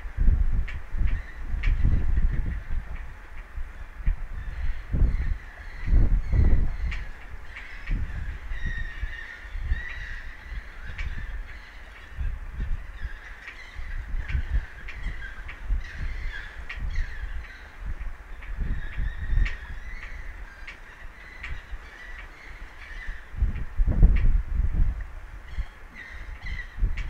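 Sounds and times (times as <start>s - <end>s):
wind gusting against microphone: 0.0s - 27.0s.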